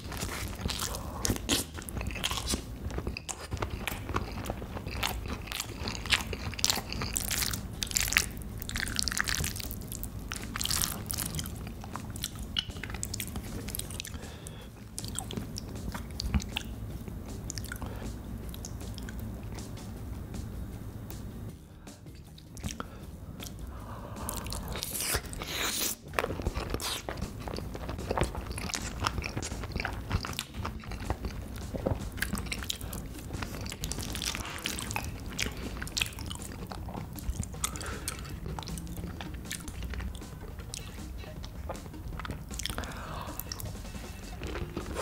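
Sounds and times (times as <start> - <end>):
person chewing crunchy food: 0.0 - 19.7, 21.8 - 45.0.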